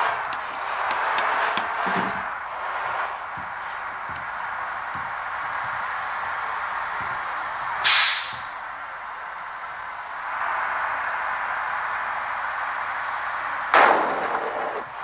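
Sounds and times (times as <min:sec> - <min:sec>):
bus engine and road noise: 0:00.0 - 0:15.0
loud noisy burst: 0:00.0 - 0:15.0.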